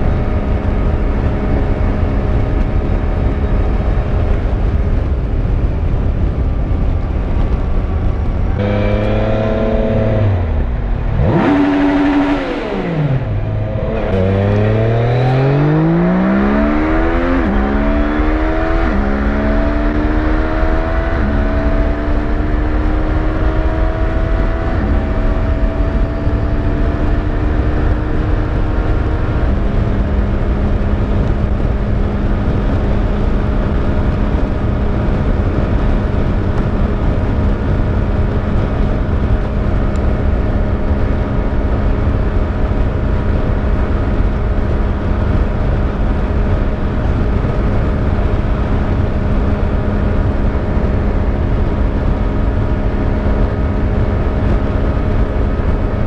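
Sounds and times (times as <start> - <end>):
wind rush on microphone: 0.0 - 56.0
motorcycle engine pulling hard: 7.5 - 56.0.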